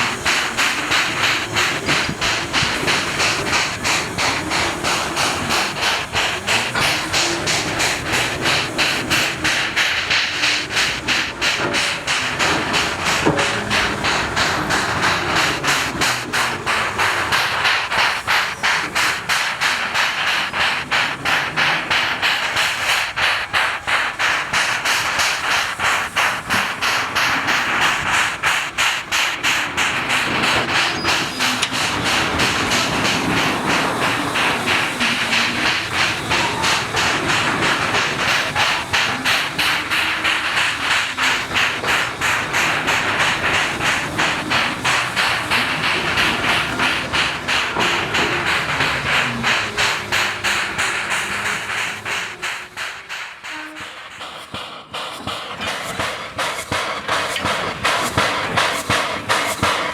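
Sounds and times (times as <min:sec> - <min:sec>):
steam hiss: 0:00.0 - 0:59.9
steam locomotive exhaust beating: 0:00.0 - 0:59.9.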